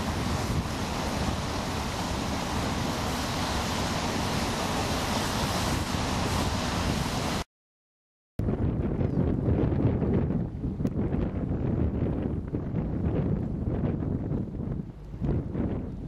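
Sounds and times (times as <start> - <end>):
wind buffeting microphone: 0.0 - 7.4, 8.4 - 16.0.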